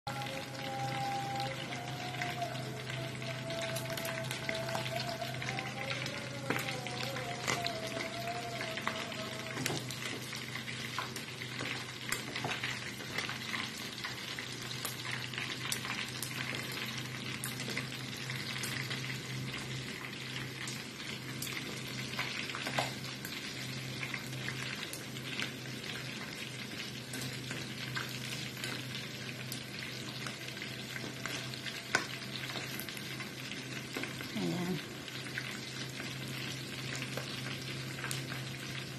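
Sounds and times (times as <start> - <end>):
chicken frying in hot oil: 0.0 - 38.9.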